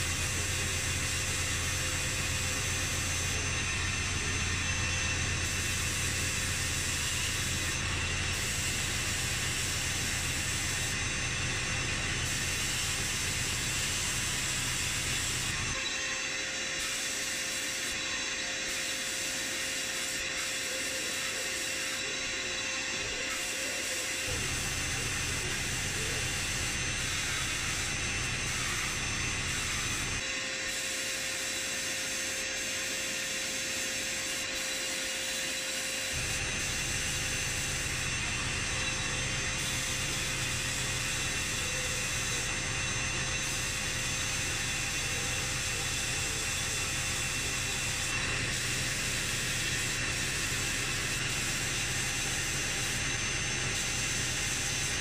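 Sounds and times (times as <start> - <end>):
air and grit hissing from blast gun: 0.0 - 55.0.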